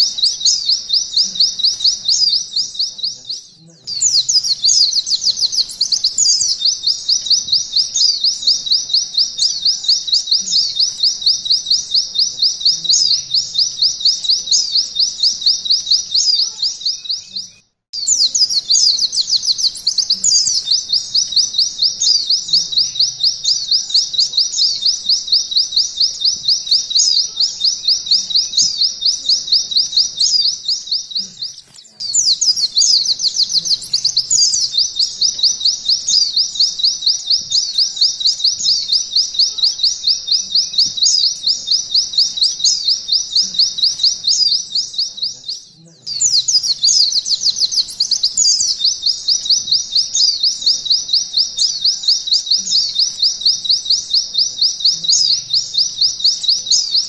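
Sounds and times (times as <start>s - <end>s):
bird chattering trill: 0.0s - 57.0s.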